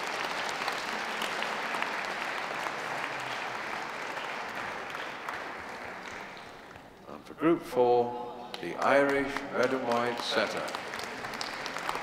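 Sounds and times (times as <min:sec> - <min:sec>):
audience applauding: 0:00.0 - 0:06.9, 0:08.5 - 0:12.0.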